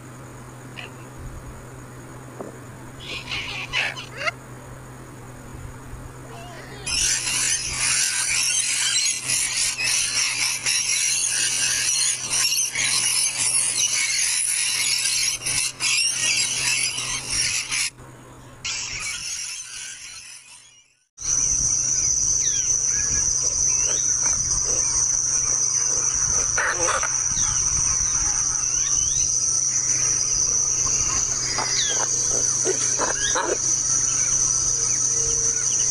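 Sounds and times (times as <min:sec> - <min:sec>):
insect trill: 0:00.0 - 0:35.9
lorikeets chattering and screeching: 0:03.0 - 0:04.4, 0:06.3 - 0:35.9.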